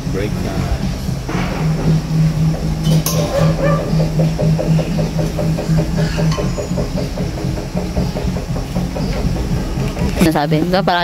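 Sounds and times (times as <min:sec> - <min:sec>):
engine running with fast rattle: 0:00.0 - 0:11.0.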